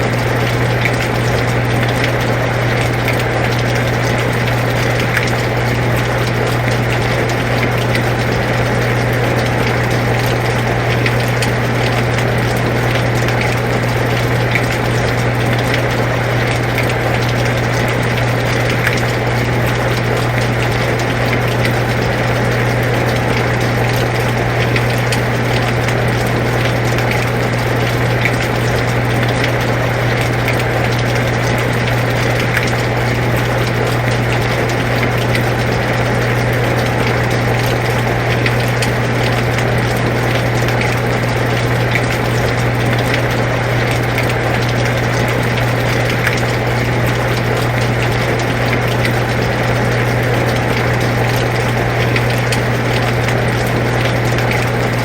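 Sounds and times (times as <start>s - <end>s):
air conditioner humming: 0.0s - 55.0s
rain falling: 0.0s - 55.0s.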